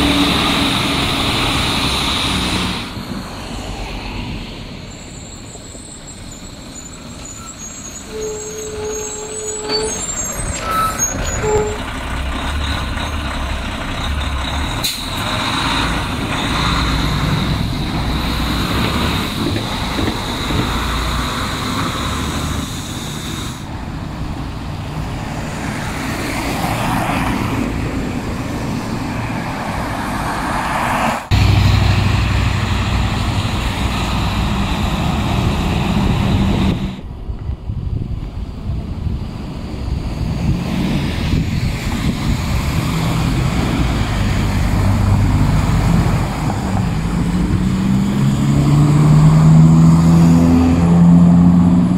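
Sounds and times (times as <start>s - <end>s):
diesel truck engines: 0.0s - 51.9s.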